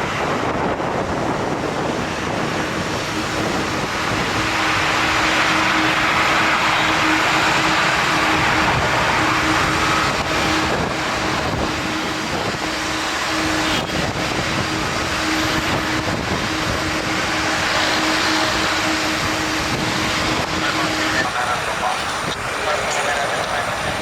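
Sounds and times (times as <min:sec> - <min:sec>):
jet engines running: 0:00.0 - 0:24.0
steady low hum: 0:00.0 - 0:24.0.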